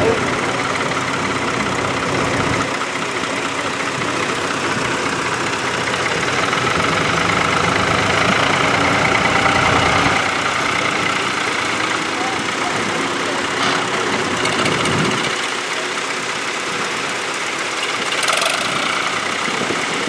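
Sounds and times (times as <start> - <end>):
tractor engine under load: 0.0 - 20.0.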